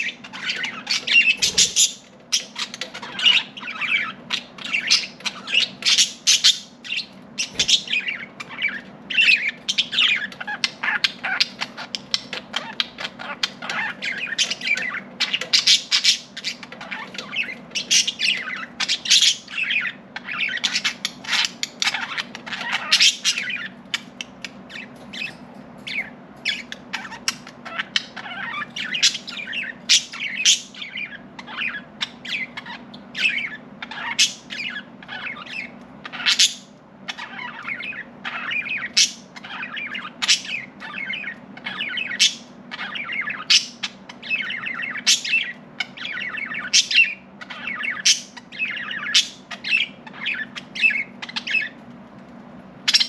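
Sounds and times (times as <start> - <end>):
budgerigars chattering: 0.0 - 51.8
faint low hum: 0.0 - 53.0.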